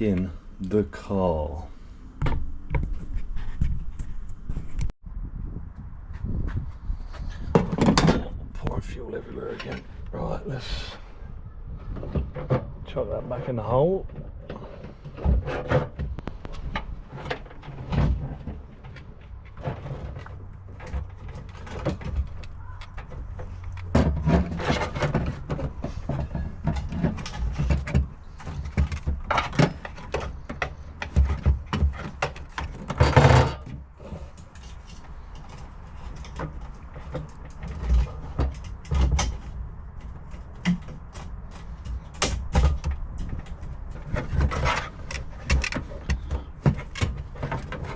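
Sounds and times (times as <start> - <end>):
scraping: 6.2 - 47.9.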